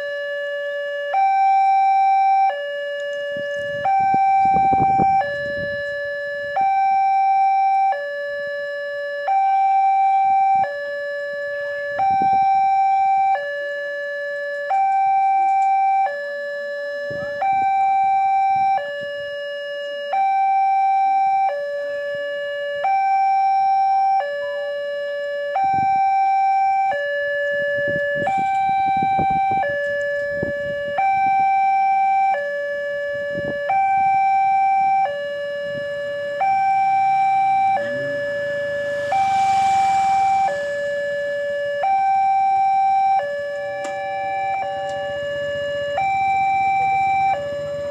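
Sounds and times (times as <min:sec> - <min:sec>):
level crossing alarm two-tone: 0:00.0 - 0:47.9.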